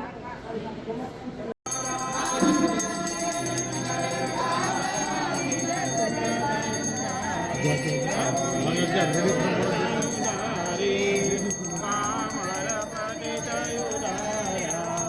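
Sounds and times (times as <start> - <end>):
jingling bells: 1.7 - 15.0
singing: 1.7 - 15.0.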